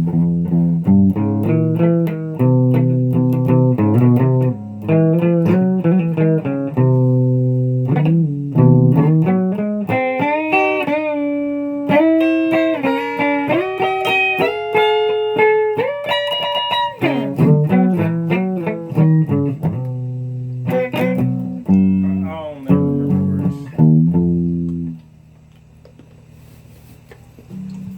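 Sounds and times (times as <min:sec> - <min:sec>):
plucked guitar music: 0:00.0 - 0:25.2, 0:27.5 - 0:27.9.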